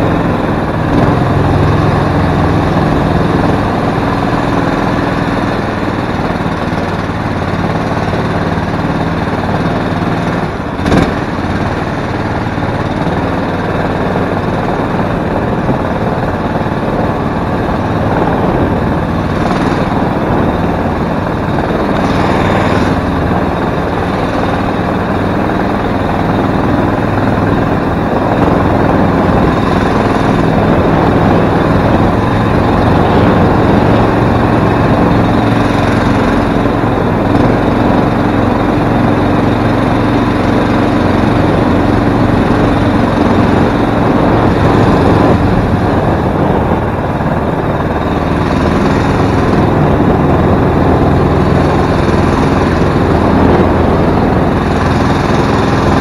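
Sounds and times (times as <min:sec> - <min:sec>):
small boat motor running: 0:00.0 - 0:56.0.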